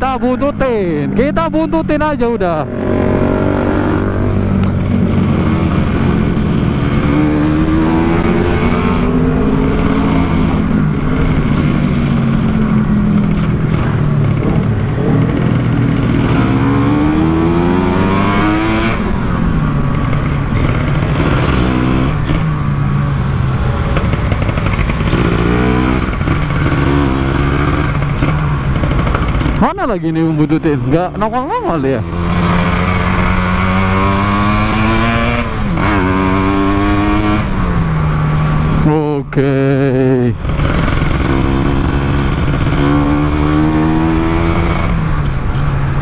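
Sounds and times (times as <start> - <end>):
two-stroke motorcycle engine revving: 0.0 - 46.0.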